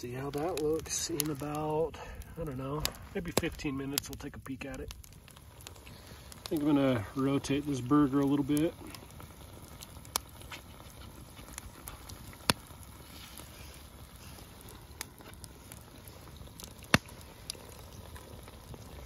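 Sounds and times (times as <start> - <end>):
coals crackling and popping: 0.0 - 19.0.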